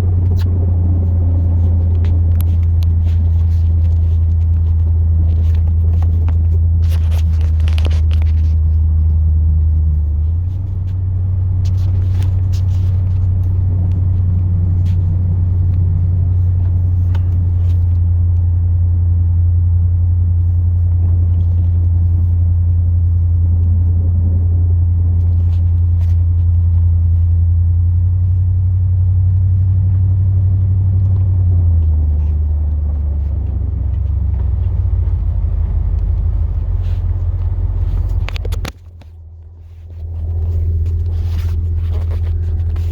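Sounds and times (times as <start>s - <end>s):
truck engine droning: 0.0s - 42.9s.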